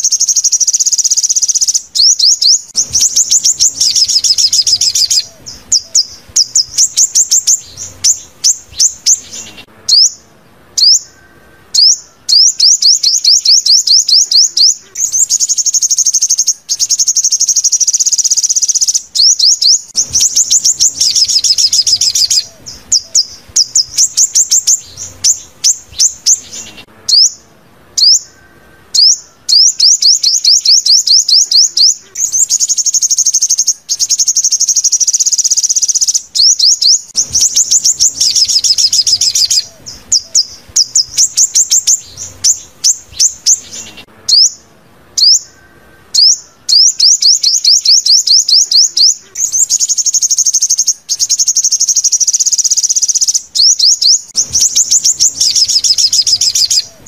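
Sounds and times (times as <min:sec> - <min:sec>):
sunbird song: 0:00.0 - 0:57.0.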